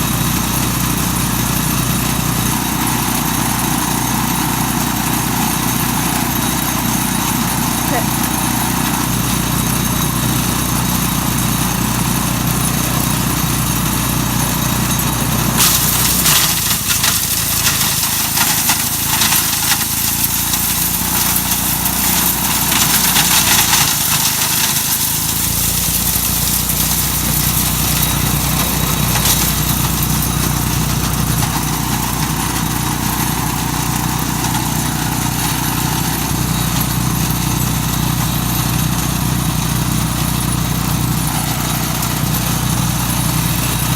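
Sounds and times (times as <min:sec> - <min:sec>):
wood chipper engine running: 0:00.0 - 0:43.9
clatter of nuts being shredded: 0:02.0 - 0:43.9.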